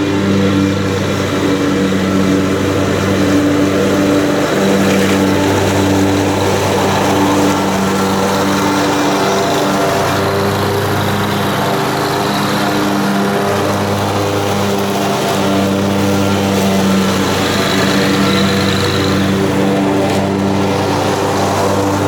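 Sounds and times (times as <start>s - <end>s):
riding lawn mower engine running: 0.0s - 22.0s.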